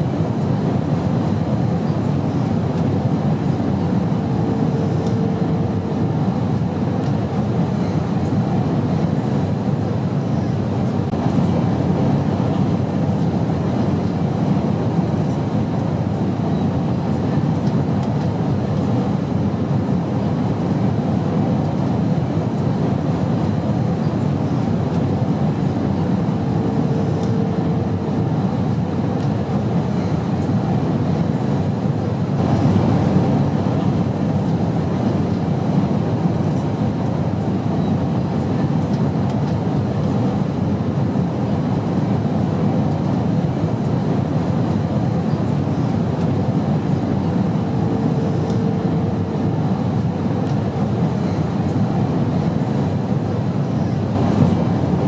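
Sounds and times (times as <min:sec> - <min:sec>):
airplane droning in flight: 0:00.0 - 0:55.0.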